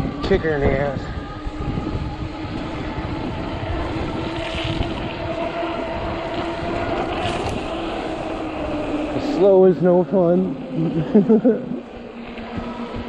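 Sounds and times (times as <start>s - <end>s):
electric hub motor whine: 0.0s - 13.0s
tyres through slush: 0.0s - 13.0s
wind on microphone: 0.0s - 13.0s.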